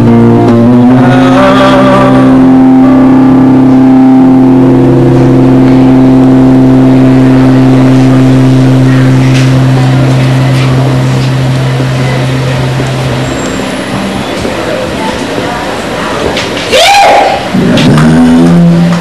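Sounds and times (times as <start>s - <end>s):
loud electric guitar chord: 0.0s - 15.1s, 17.6s - 19.0s.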